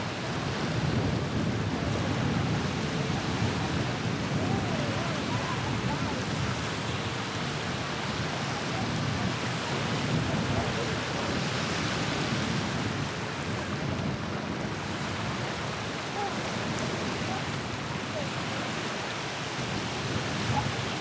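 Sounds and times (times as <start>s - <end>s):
lake water: 0.0s - 21.0s
wind on the microphone: 0.0s - 21.0s
faint distant voices: 1.6s - 11.8s, 13.1s - 21.0s.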